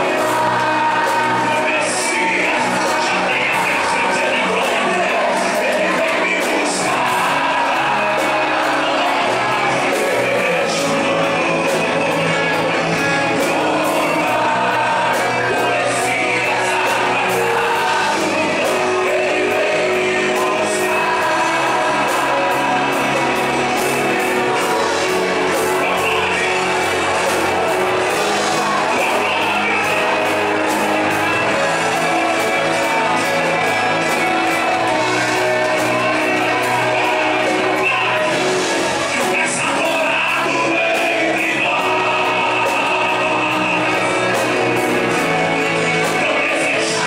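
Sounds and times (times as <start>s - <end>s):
band playing: 0.0s - 47.0s
congregation shouting: 0.0s - 47.0s
man singing into a microphone: 0.0s - 47.0s.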